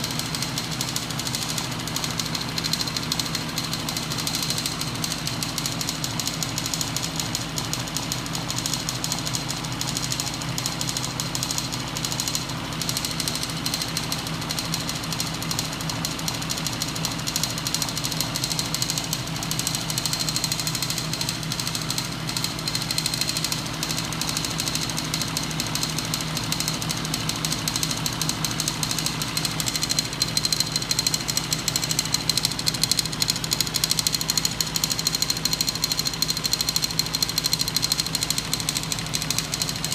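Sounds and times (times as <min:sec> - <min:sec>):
crank mechanism rattling: 0:00.0 - 0:39.9.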